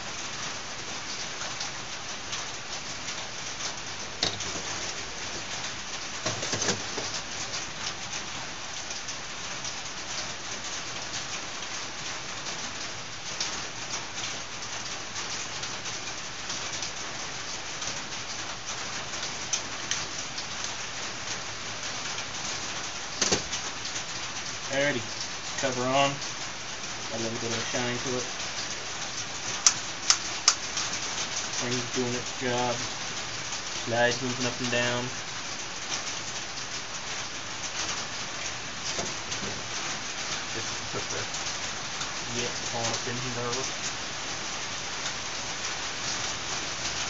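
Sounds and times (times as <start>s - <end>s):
steady hiss: 0.0s - 47.0s.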